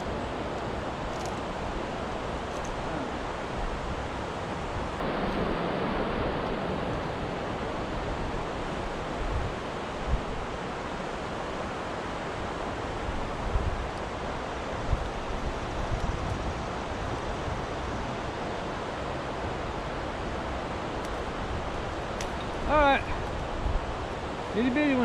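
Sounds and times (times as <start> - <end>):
water rushing through shoals: 0.0 - 25.0.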